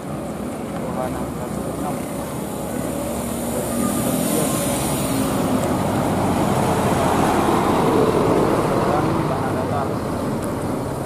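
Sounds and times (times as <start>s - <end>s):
diesel bus engine driving past: 1.3s - 11.0s.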